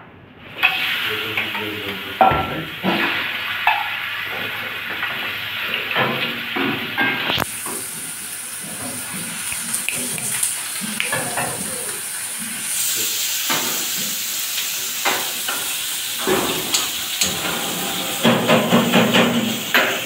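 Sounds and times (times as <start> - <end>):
utensils and pans clinking: 0.6 - 12.1, 13.4 - 20.0
meat sizzling in a grill pan: 0.6 - 20.0.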